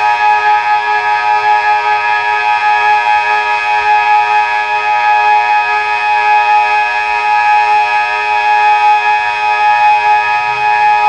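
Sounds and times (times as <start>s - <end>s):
civil defence siren steady tone: 0.0s - 11.0s.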